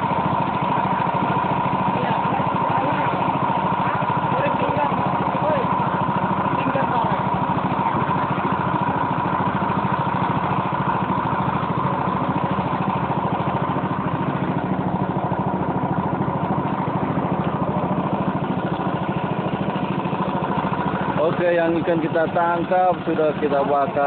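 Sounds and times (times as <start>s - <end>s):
motorboat engine running: 0.0s - 24.0s.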